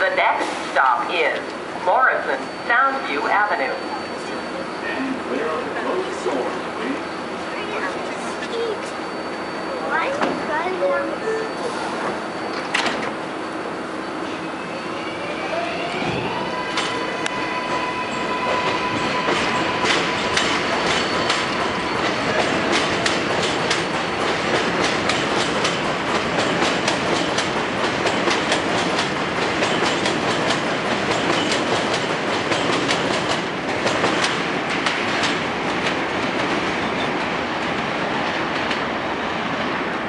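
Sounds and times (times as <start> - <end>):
subway train passing: 0.0 - 40.0.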